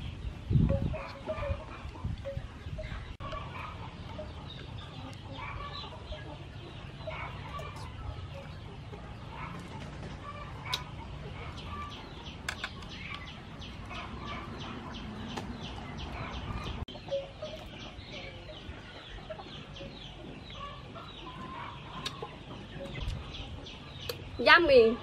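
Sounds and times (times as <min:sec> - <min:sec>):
chickens clucking: 0:00.0 - 0:25.0
small birds chirping: 0:00.0 - 0:25.0.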